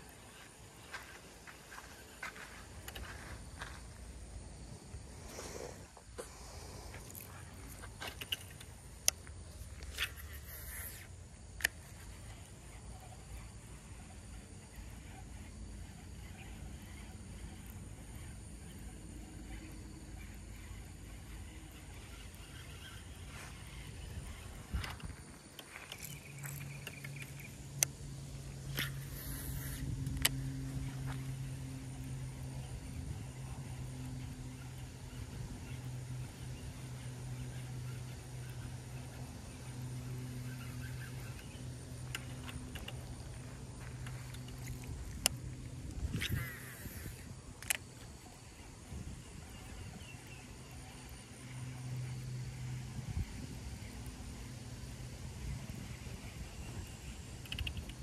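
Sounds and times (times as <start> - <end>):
low engine hum: 0.0 - 58.0.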